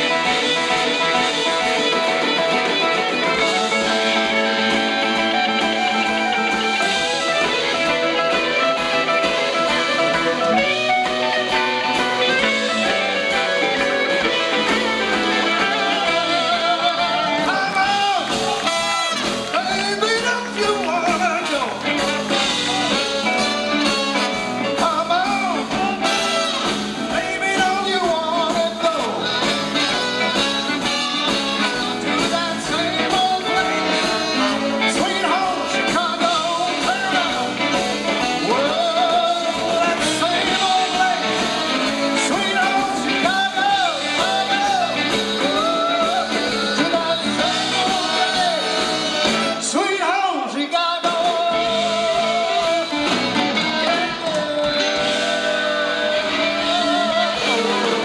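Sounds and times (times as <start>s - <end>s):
blues band playing: 0.0s - 58.0s.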